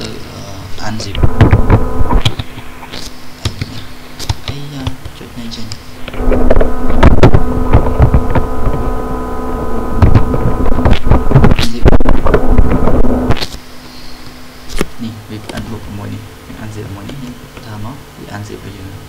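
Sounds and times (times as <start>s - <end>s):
loud steady buzz: 0.0s - 19.0s.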